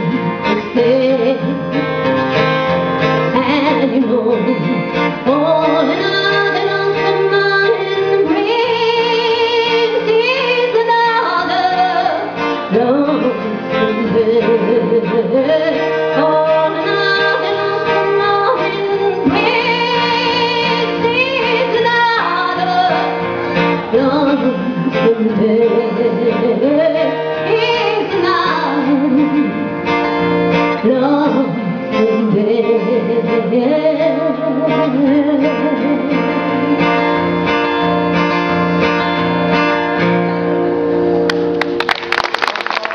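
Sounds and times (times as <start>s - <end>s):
woman singing country song: 0.0s - 40.1s
acoustic guitar: 0.0s - 42.9s.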